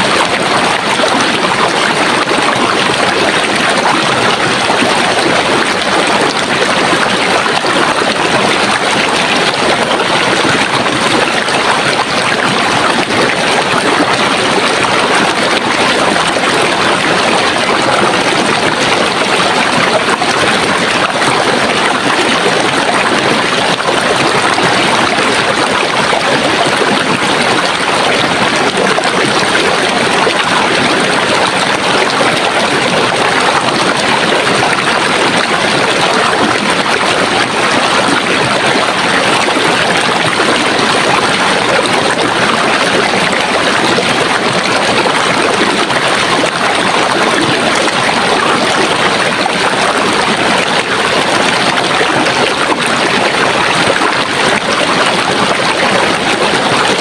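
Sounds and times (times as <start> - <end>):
stream rushing and splashing: 0.0 - 57.0.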